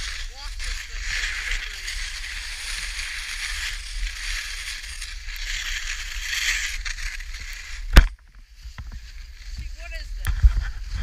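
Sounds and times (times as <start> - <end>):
skis scraping over snow: 0.0 - 11.0
wind on microphone: 0.0 - 11.0.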